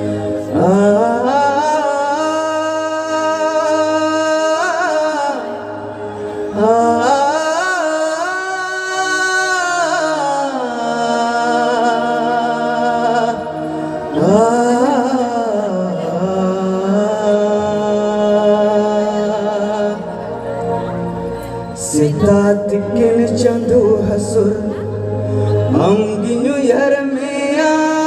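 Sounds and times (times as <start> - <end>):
person singing long held notes: 0.0 - 28.0.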